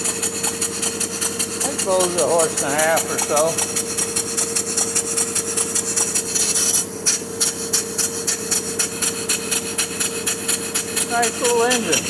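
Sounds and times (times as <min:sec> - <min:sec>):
steady engine hum: 0:00.0 - 0:12.0
steam engine chuffing: 0:00.0 - 0:12.0.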